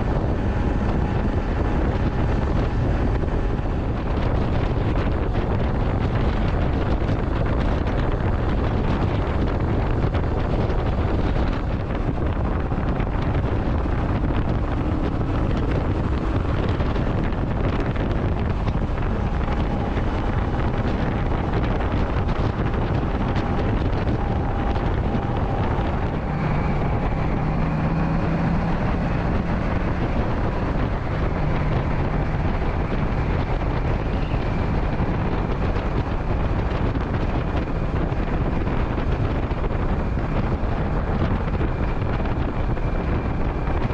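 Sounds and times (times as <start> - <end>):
motorcycle road and engine noise: 0.0 - 43.9
wind buffeting microphone: 0.0 - 43.9.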